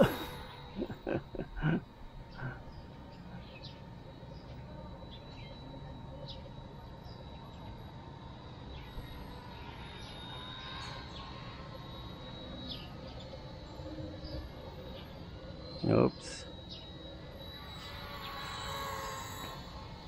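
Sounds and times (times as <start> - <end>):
rc helicopter motor whine: 0.0 - 20.0.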